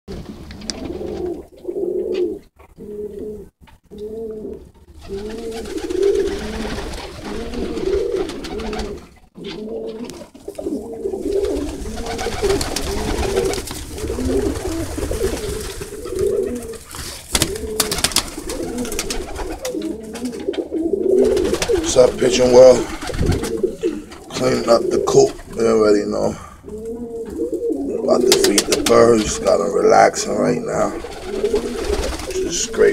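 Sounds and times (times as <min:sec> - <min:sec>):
pigeons cooing: 0:00.2 - 0:32.9.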